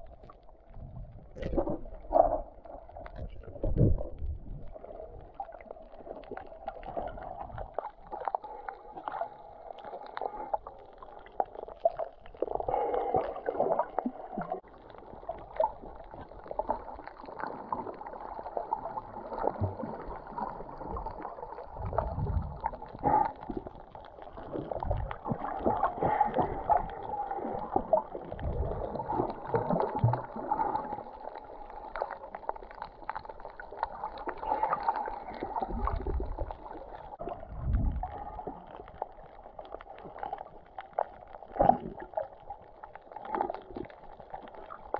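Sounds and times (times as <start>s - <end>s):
low rumbling underwater swells: 0.0s - 44.9s
muffled underwater crackling and gurgling: 0.0s - 44.9s.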